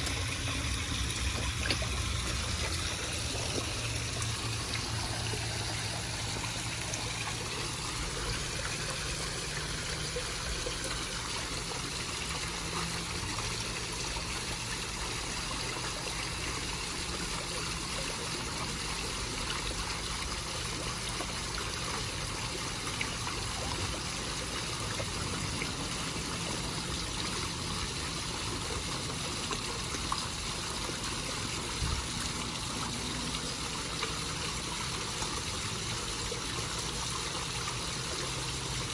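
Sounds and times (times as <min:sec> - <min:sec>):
small waterfall splashing into pond: 0:00.0 - 0:38.9.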